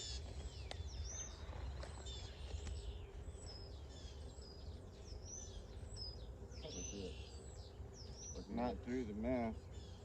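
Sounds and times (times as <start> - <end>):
songbirds chirping and singing: 0.0 - 10.0.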